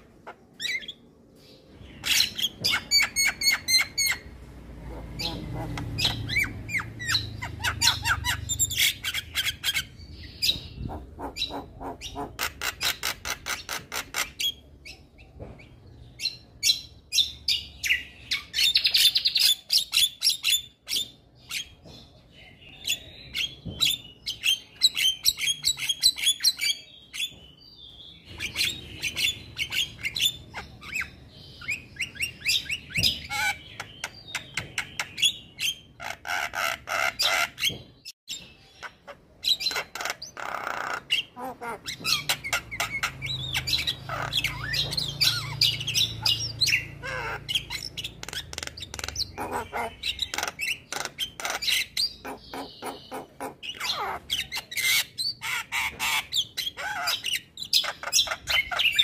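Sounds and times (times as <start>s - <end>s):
myna bird singing: 0.0s - 59.0s.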